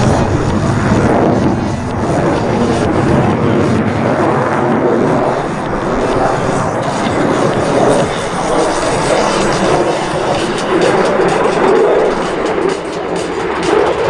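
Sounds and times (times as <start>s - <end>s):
airplane engine drone: 0.0s - 14.0s.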